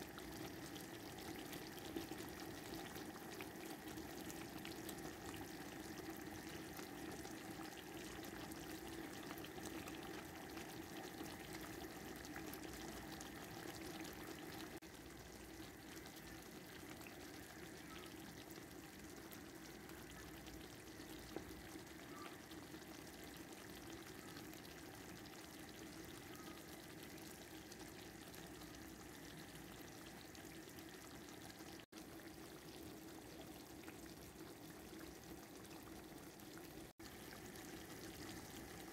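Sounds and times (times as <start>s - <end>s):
sauce bubbling in a pan: 0.0s - 38.9s.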